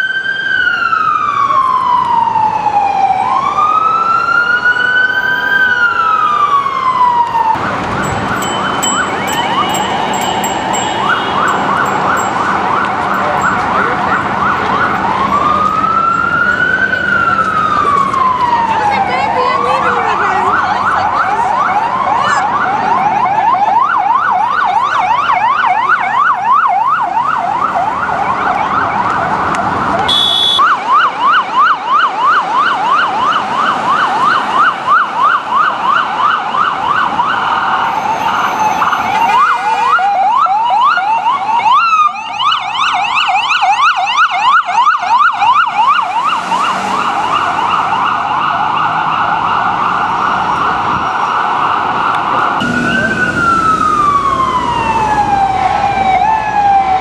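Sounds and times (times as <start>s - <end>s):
ambulance siren yelping: 0.0s - 57.0s.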